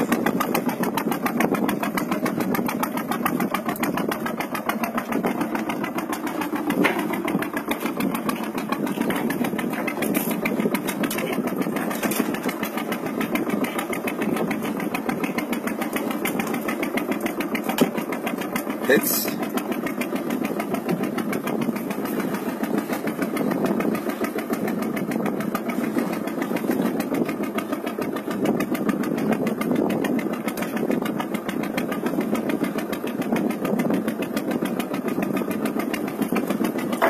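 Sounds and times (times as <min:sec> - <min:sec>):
boat engine running: 0:00.0 - 0:37.0.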